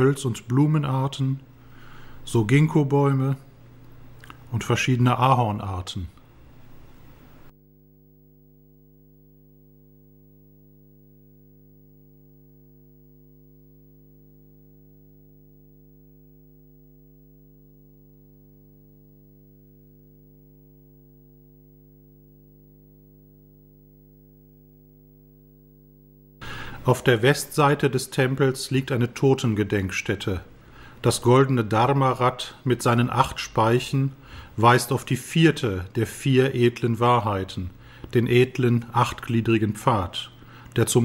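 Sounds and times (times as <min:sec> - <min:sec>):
faint electrical hum: 0:00.0 - 0:41.0.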